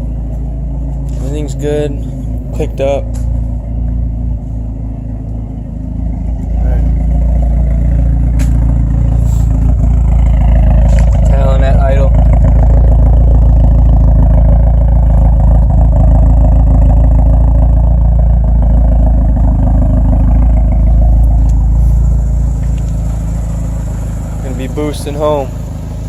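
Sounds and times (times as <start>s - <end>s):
car engine idling loudly: 0.0s - 26.0s.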